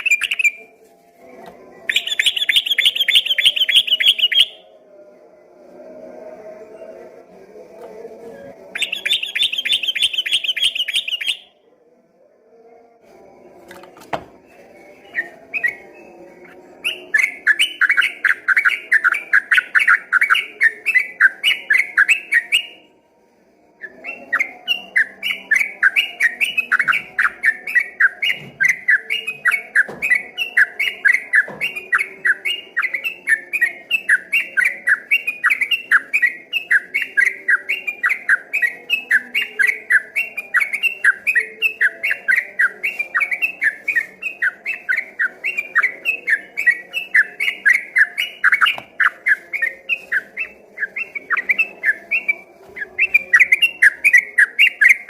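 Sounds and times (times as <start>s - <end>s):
bird singing whistled notes: 0.0s - 0.7s, 1.9s - 4.7s, 8.7s - 11.6s, 14.5s - 16.2s, 16.8s - 22.9s, 23.8s - 55.0s.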